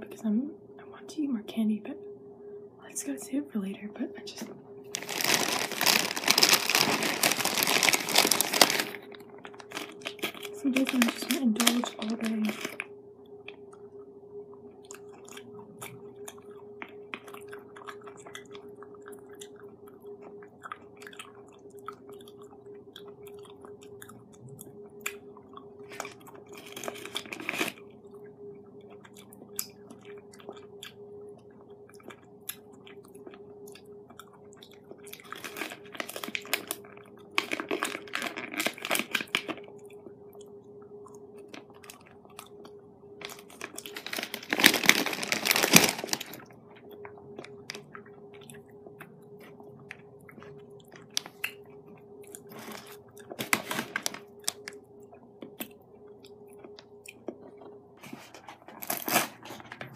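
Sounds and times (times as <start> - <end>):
faint hum: 0.0 - 59.9
person chewing chocolate: 4.9 - 57.9.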